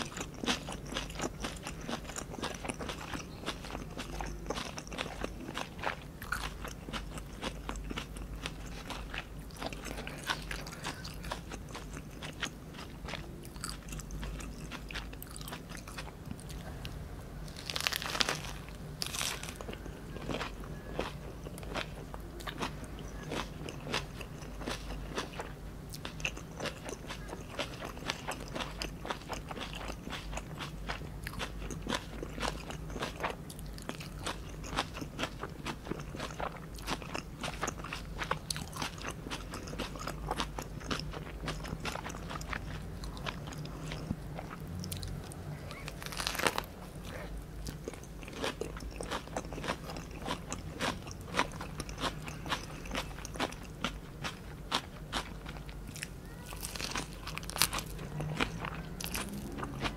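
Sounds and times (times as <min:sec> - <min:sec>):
crunching while chewing: 0:00.0 - 0:59.9.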